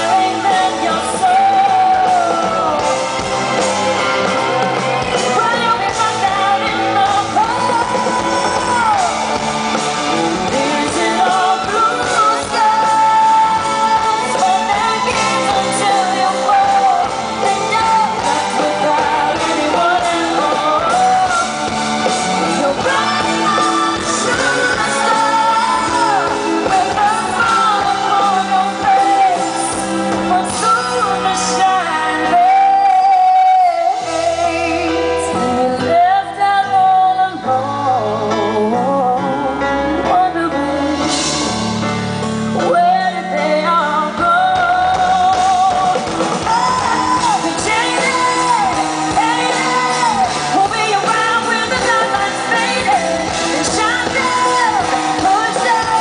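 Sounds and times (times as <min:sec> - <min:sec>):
live band playing: 0:00.0 - 0:56.0
woman singing into microphone: 0:00.0 - 0:56.0.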